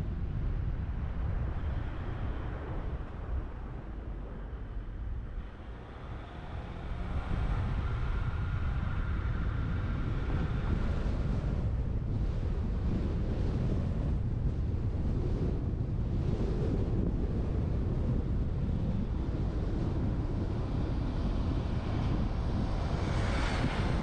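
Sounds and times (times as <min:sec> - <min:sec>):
low road rumble: 0:00.0 - 0:24.0
wind buffeting camera: 0:00.0 - 0:24.0.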